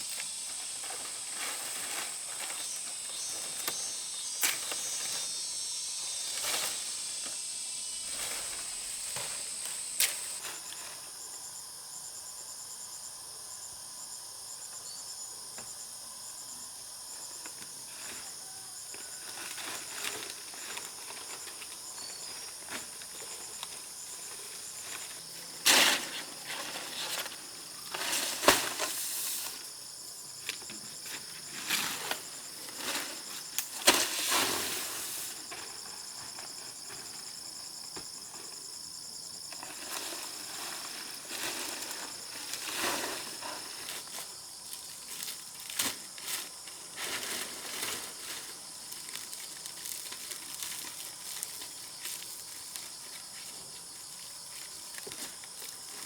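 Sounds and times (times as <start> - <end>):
insects buzzing and chirping: 0.0 - 56.0.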